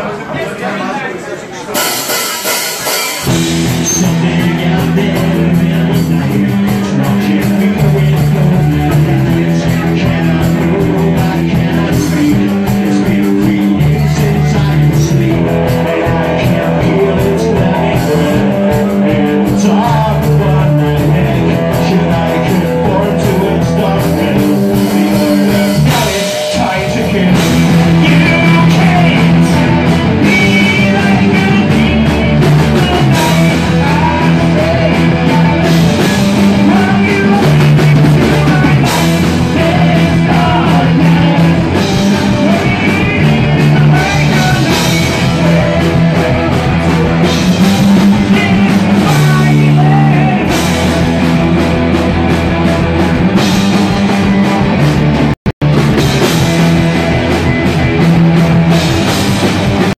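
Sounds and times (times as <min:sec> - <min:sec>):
rock band playing live: 0:01.5 - 0:59.9
bass guitar stepped notes: 0:03.2 - 0:59.9.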